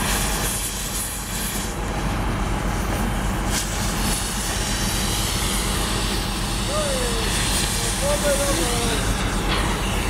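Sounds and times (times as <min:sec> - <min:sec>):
continuous gas torch hiss: 0:00.0 - 0:10.0
low diesel engine rumble: 0:00.0 - 0:10.0.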